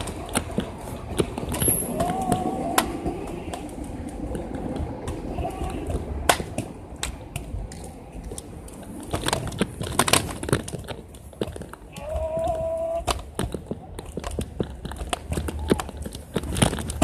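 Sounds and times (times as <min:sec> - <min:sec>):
scooter wheels rumbling on concrete: 0:00.0 - 0:17.0.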